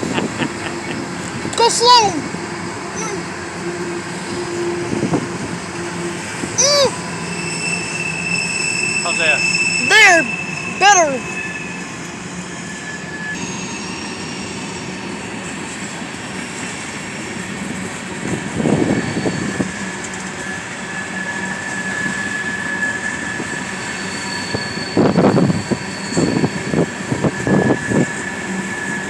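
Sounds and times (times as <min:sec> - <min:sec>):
train wheels rumbling on rails: 0:00.0 - 0:29.0
high wheel squeals: 0:02.5 - 0:15.4, 0:18.3 - 0:29.0.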